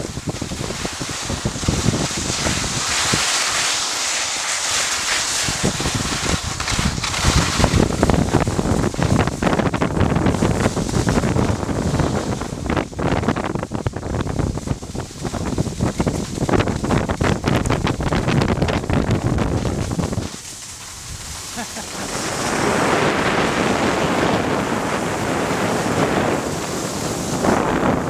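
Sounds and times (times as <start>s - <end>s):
wind buffeting microphone: 0.0s - 3.8s, 4.8s - 28.0s
skis hissing over snow: 0.0s - 28.0s.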